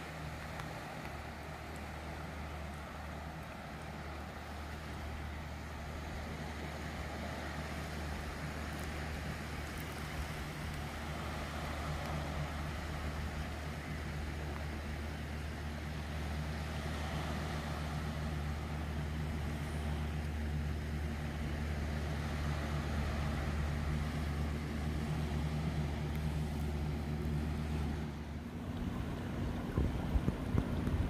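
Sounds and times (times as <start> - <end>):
low engine drone with hiss: 0.0 - 31.0.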